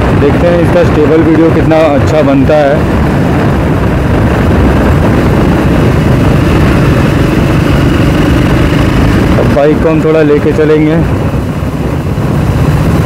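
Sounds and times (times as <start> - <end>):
motorcycle engine running: 0.0 - 13.0
wind rumble: 0.0 - 13.0.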